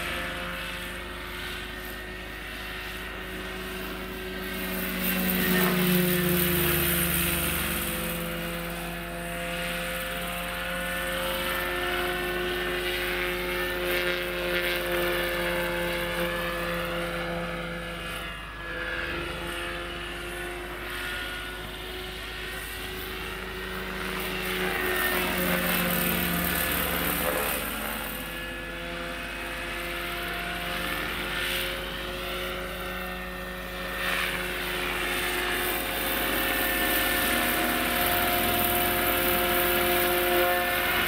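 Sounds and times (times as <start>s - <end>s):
model helicopter whine: 0.0s - 41.0s.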